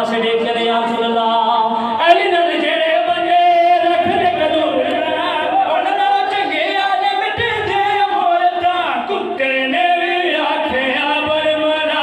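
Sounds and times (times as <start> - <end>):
man singing a lament: 0.0 - 12.0.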